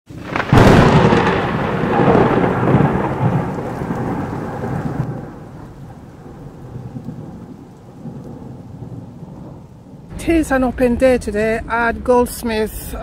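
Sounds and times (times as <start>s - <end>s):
thunder clap and rumble: 0.1s - 13.0s.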